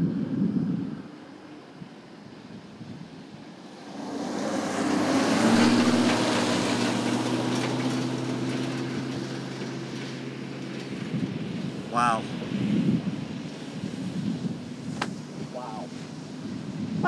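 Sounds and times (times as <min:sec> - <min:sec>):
truck engine hum: 0:01.0 - 0:17.0.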